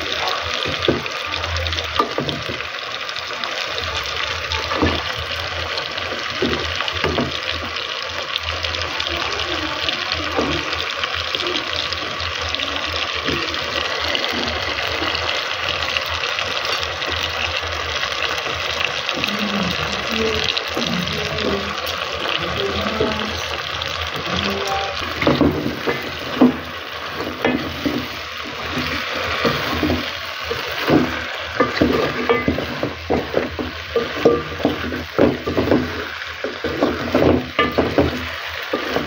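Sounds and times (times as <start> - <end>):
food frying in oil: 0.0 - 39.0.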